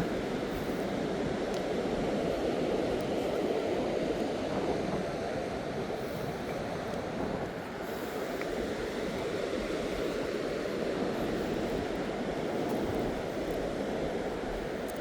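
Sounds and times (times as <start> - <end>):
surf on a beach: 0.0 - 15.0
wind: 0.0 - 15.0.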